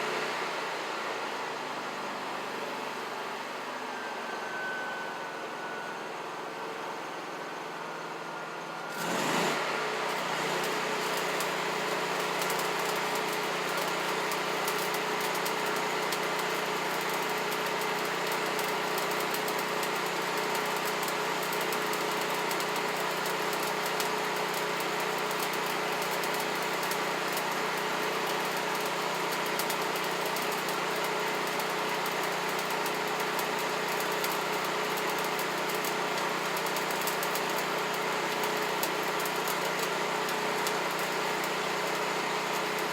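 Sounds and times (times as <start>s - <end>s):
machine humming steadily: 0.0s - 42.9s.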